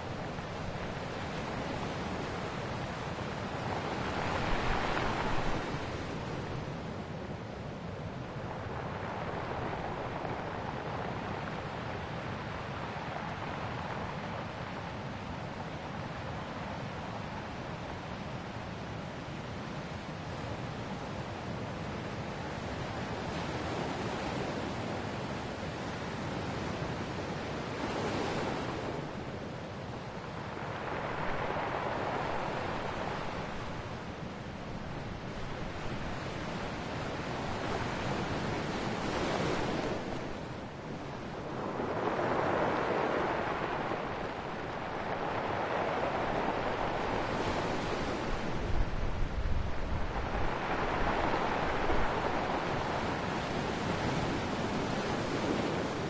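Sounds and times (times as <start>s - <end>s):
ocean waves breaking on shore: 0.0s - 56.0s
surf hiss: 0.0s - 56.0s
wind rumble on microphone: 0.0s - 56.0s.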